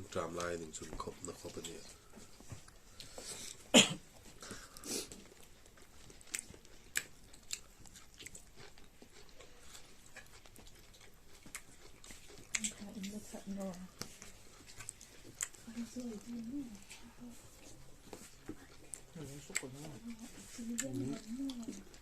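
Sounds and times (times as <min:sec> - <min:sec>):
person chewing and biting food: 0:01.2 - 0:13.1, 0:13.9 - 0:15.8, 0:17.4 - 0:22.0.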